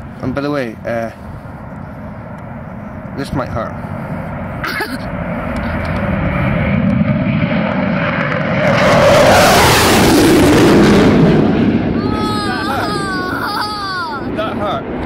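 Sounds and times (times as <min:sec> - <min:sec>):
jet taking off with afterburner: 0:00.0 - 0:15.0.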